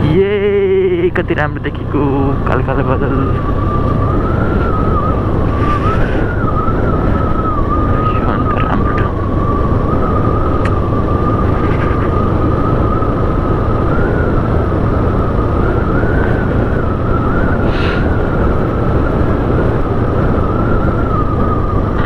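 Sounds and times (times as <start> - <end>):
high whine: 0.0 - 22.0
road and wind noise: 0.0 - 22.0.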